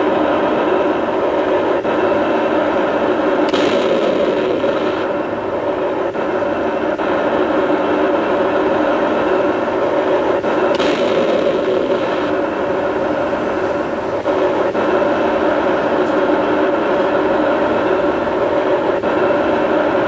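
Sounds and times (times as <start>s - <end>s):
toy tank engine sound effect: 0.0s - 20.0s.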